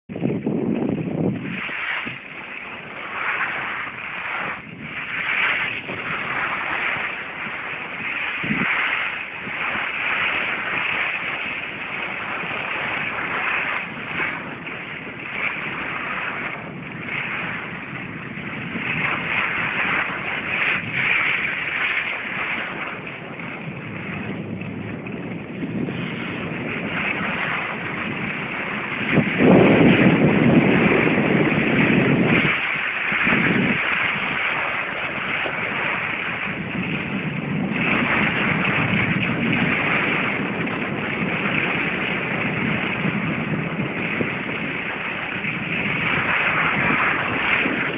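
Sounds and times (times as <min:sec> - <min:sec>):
wind on microphone: 0:00.0 - 0:47.9.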